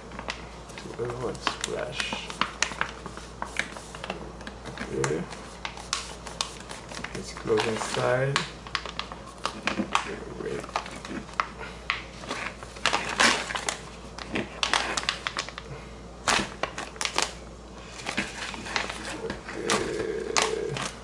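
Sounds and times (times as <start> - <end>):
plastic pouch crinkling: 0.2 - 21.0.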